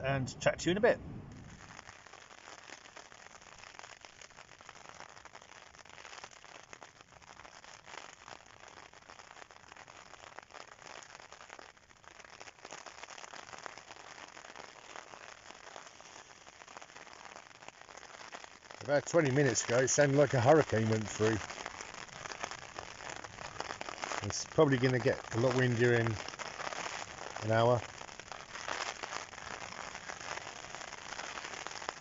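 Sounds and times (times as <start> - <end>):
rain on tent flysheet: 0.8 - 32.0.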